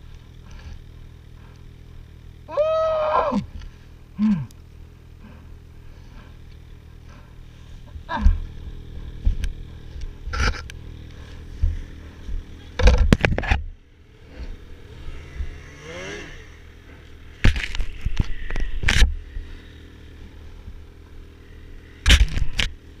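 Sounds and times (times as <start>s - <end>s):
snowmobile engine idling: 0.0s - 23.0s.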